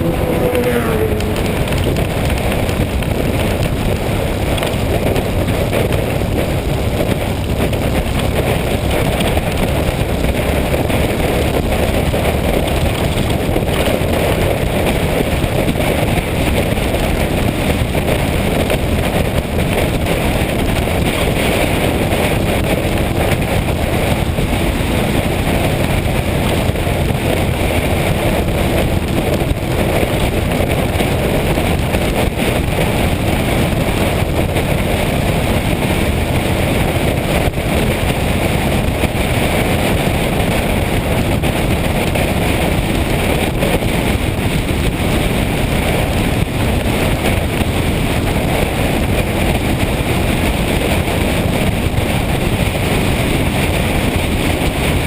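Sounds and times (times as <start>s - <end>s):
motorcycle engine: 0.0s - 55.0s
road noise: 0.0s - 55.0s
wind rushing over microphone: 0.0s - 55.0s.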